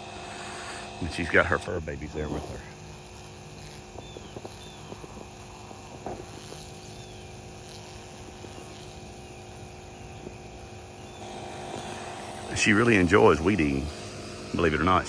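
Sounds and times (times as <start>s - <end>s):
air compressor running: 0.0s - 15.0s.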